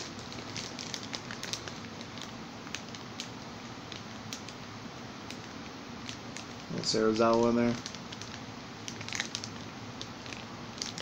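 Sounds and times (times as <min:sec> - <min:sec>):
plastic bag crinkling: 0:00.0 - 0:04.7, 0:05.3 - 0:11.0.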